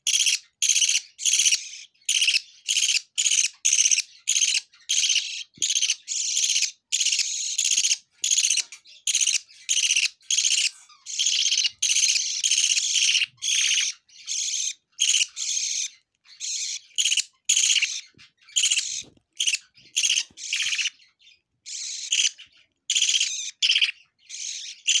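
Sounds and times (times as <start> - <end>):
chicks chirping raspily: 0.0 - 25.0.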